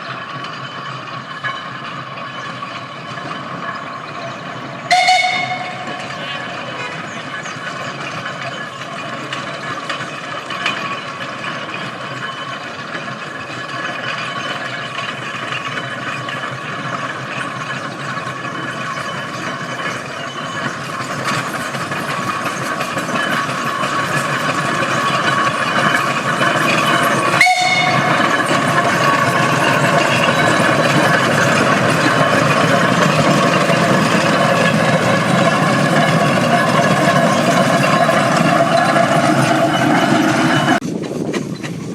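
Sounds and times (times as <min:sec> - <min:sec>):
steam traction engine running: 0:00.0 - 0:41.9.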